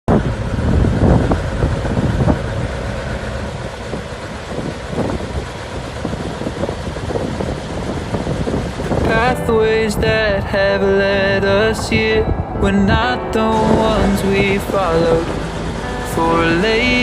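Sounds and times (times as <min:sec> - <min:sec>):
tractor diesel engine running: 0:00.1 - 0:17.0
wind buffeting microphone: 0:00.1 - 0:17.0.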